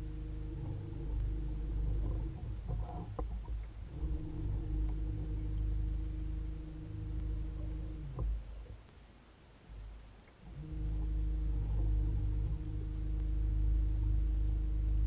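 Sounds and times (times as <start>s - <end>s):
boat motor humming: 0.0s - 8.9s, 9.7s - 15.0s
low rumble: 0.0s - 15.0s.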